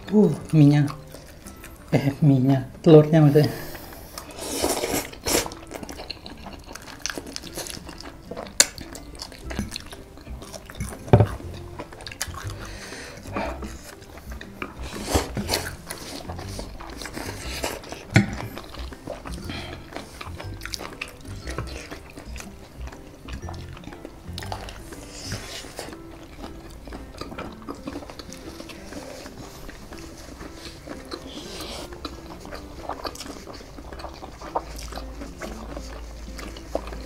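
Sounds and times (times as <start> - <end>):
noodles slurped and chewed: 0.0 - 2.2, 3.3 - 37.0.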